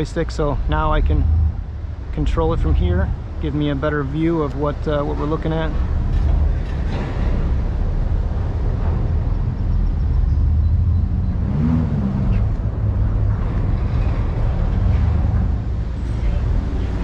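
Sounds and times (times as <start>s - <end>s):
boat engines rumbling: 0.0s - 17.0s.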